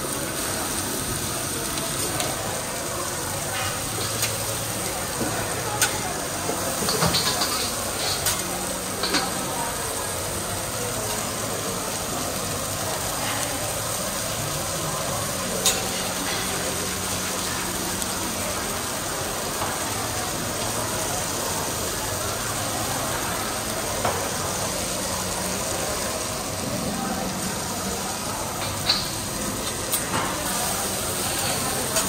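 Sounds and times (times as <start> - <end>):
meat sizzling on a hot plate: 0.0 - 32.0.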